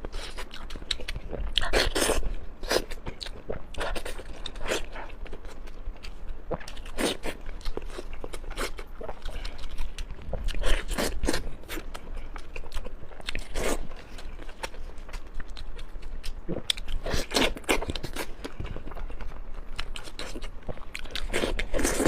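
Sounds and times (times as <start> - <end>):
chewing and biting: 0.0 - 22.0.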